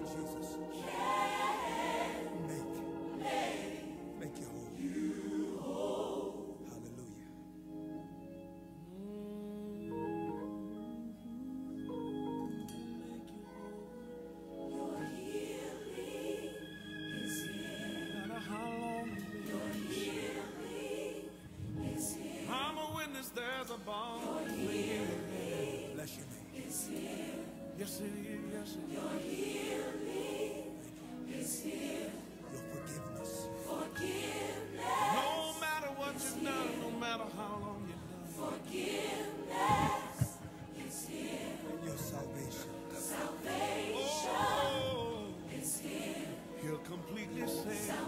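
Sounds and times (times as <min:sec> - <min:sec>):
choir singing gospel song: 0:00.0 - 0:07.2, 0:08.8 - 0:48.0.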